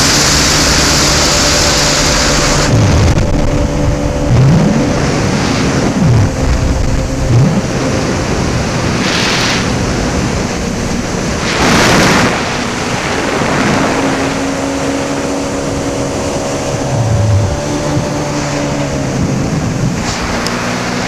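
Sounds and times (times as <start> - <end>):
personal watercraft engine running: 0.0 - 21.0
rushing water: 0.0 - 21.0
wind on microphone: 0.0 - 21.0.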